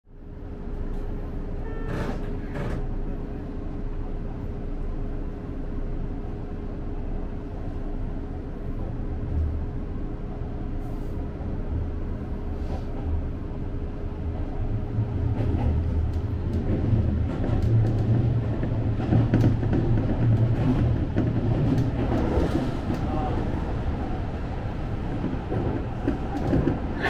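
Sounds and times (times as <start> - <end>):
train wheels rumbling on rail: 0.2 - 27.0.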